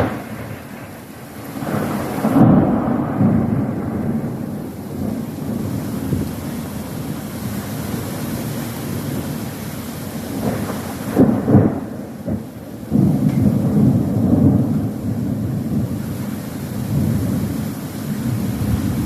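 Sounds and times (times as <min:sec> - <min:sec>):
rain hissing: 0:00.0 - 0:19.0
thunder rumbling: 0:00.0 - 0:19.0.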